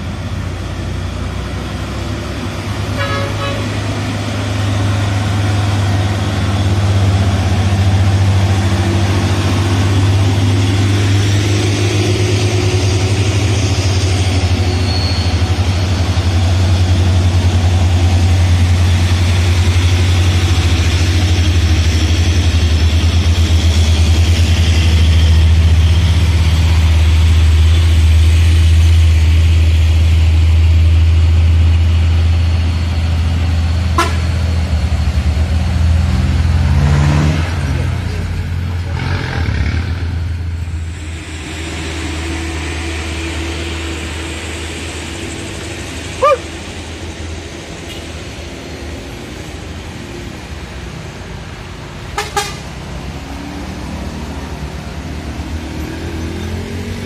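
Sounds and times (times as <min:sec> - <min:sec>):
truck diesel engine labouring: 0:00.0 - 0:57.0.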